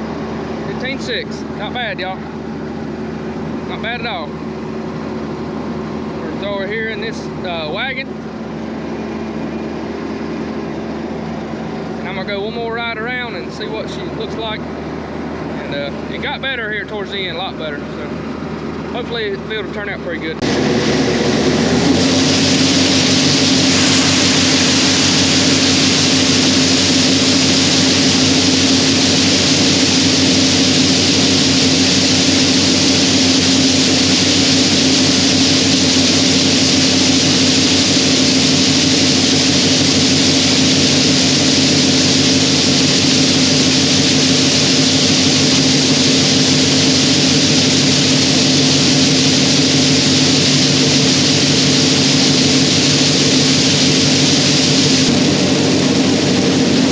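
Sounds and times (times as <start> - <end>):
combine harvester running: 0.0 - 56.9.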